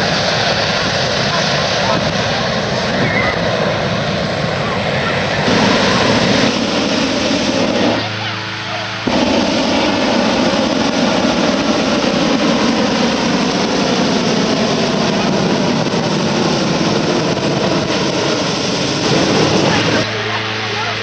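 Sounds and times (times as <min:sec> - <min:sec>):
propane burner roaring: 0:00.0 - 0:21.0.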